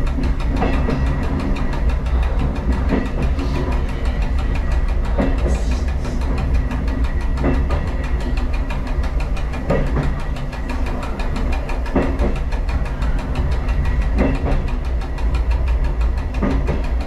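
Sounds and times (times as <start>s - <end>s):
diesel train engine drone: 0.0s - 17.0s
wheels clacking over rail joint: 0.0s - 17.0s.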